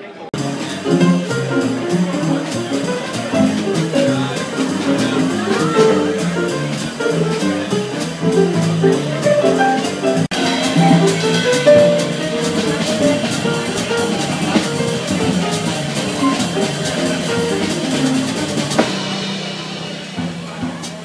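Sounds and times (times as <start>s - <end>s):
jazz band playing: 0.3s - 21.0s
drum kit: 0.4s - 21.0s.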